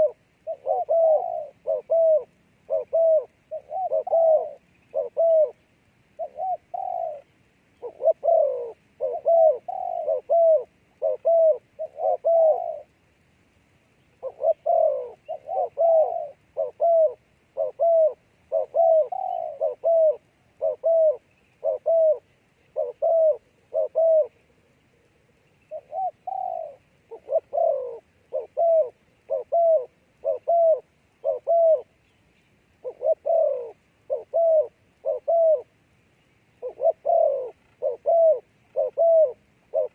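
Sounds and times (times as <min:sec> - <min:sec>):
dove cooing: 0:00.0 - 0:13.0, 0:14.1 - 0:32.0, 0:32.7 - 0:35.7, 0:36.5 - 0:39.9.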